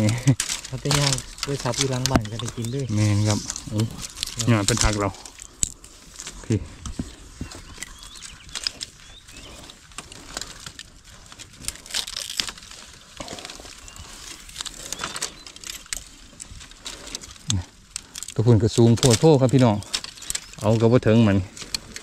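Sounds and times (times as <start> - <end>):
bamboo leaves crackling and rustling: 0.0 - 22.0
bamboo shoots snapping: 0.0 - 22.0.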